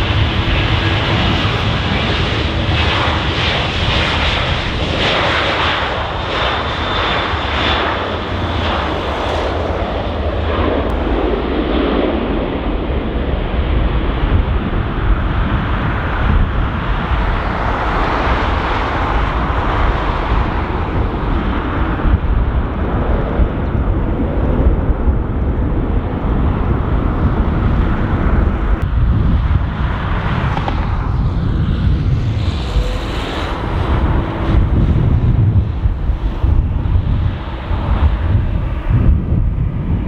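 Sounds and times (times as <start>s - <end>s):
jet engines rumbling: 0.0s - 40.0s
wind buffeting microphone: 0.0s - 40.0s.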